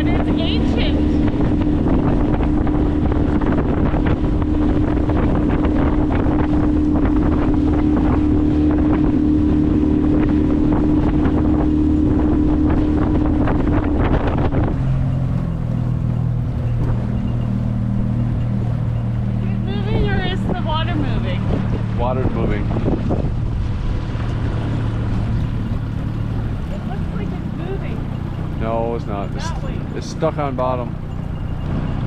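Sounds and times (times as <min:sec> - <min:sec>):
outboard motor running: 0:00.0 - 0:32.0
wind noise on microphone: 0:00.0 - 0:32.0.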